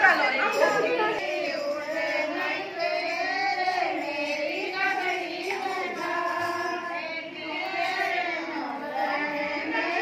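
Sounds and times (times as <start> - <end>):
women singing together: 0.0 - 10.0.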